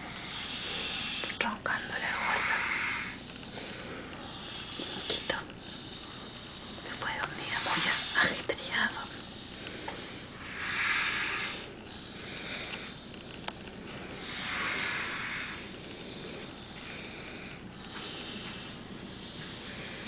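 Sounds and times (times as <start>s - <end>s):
person snoring with hissing breaths: 0.0s - 20.0s.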